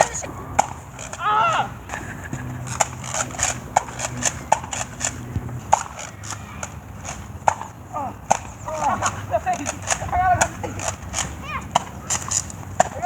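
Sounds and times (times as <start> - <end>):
sharp clicks and knocks: 0.0 - 13.0.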